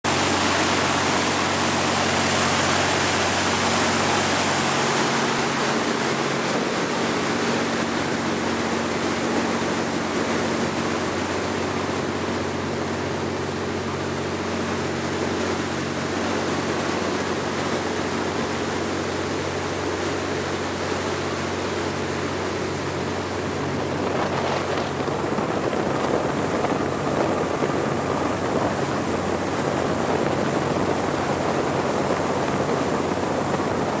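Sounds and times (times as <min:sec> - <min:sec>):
water rushing from boat hull: 0:00.0 - 0:34.0.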